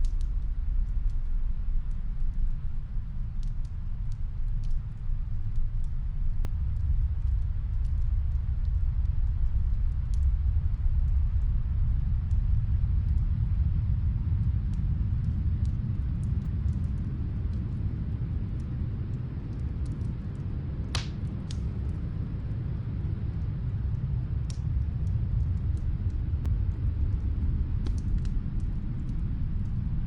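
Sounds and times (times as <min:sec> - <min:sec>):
snowstorm wind rumble: 0:00.0 - 0:30.0
wood fire crackling: 0:00.0 - 0:30.0.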